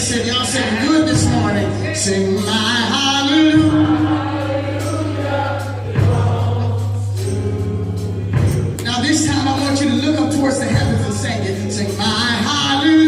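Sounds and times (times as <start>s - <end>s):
gospel choir singing: 0.0s - 13.0s.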